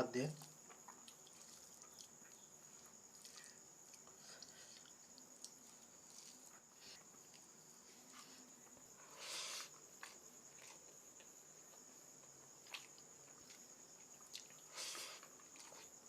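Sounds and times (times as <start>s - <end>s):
cricket chirring: 0.0s - 16.0s
faint eating clicks: 0.2s - 7.5s, 9.7s - 16.0s.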